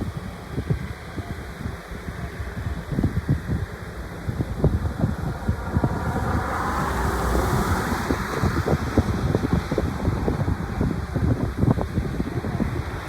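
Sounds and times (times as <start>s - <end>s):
distant aircraft engines rushing: 0.0s - 13.0s
wind buffeting microphone: 0.0s - 13.0s.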